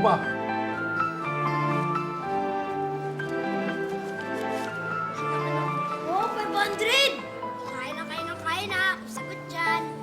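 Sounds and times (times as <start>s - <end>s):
soft background score music: 0.0s - 10.0s.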